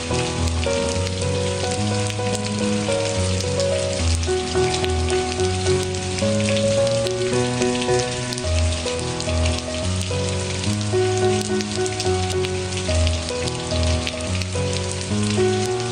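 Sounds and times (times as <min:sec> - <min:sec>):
rain patter: 0:00.0 - 0:15.9
soft melodic music: 0:00.0 - 0:15.9.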